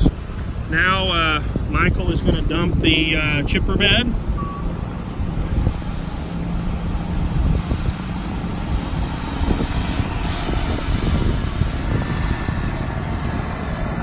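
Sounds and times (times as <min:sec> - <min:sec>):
truck engine droning: 0:00.0 - 0:14.0.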